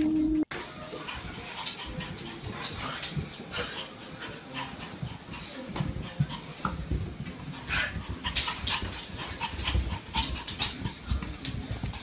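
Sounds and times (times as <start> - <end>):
animal panting: 0.9 - 12.0.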